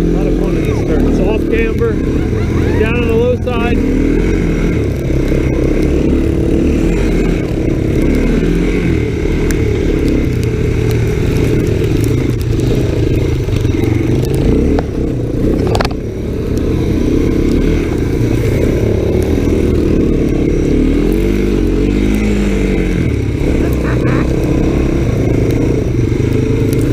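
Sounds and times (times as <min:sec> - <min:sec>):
three-wheeler engine running: 0:00.0 - 0:26.9.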